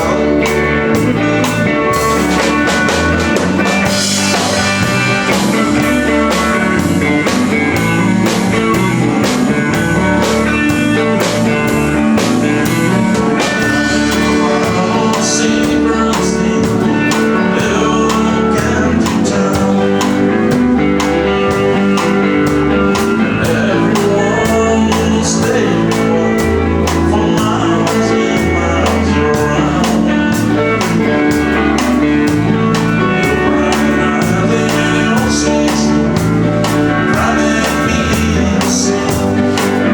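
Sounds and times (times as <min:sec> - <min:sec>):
bass: 0:00.0 - 0:39.9
drum kit: 0:00.0 - 0:39.9
electric guitar: 0:00.0 - 0:39.9.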